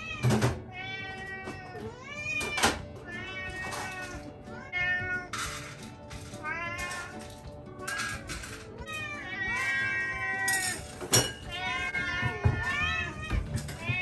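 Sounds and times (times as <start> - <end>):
cats meowing: 0.0 - 14.0.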